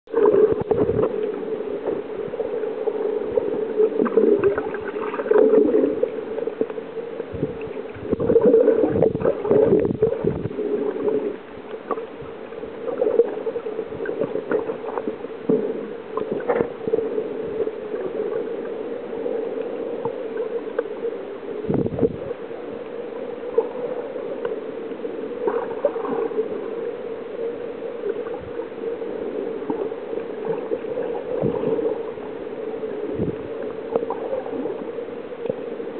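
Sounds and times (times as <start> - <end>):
underwater water drone: 0.1 - 35.9
water sloshing surges: 0.1 - 35.9.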